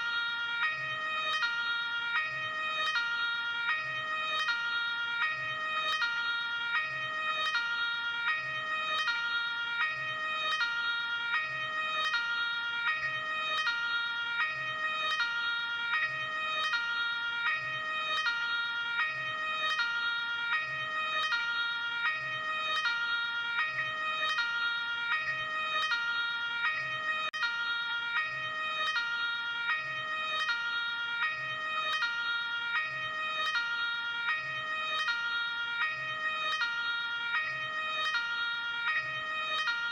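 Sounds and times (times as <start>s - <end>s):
ambulance two-tone siren: 0.0s - 39.9s.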